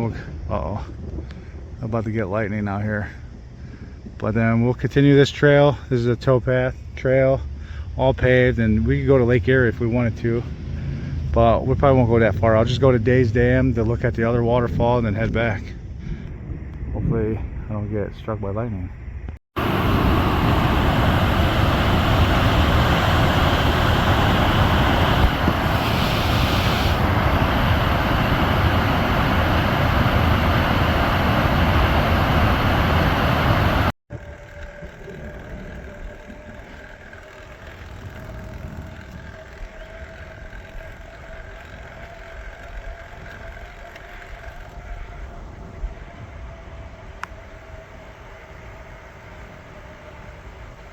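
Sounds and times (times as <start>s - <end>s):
wind buffeting microphone: 0.0s - 6.7s, 7.6s - 50.9s
faint steady hum: 0.0s - 50.9s.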